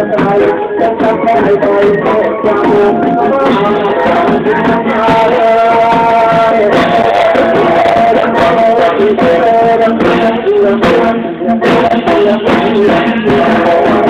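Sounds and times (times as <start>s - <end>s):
dense instrumental backing: 0.0s - 14.0s
man singing: 0.0s - 14.0s.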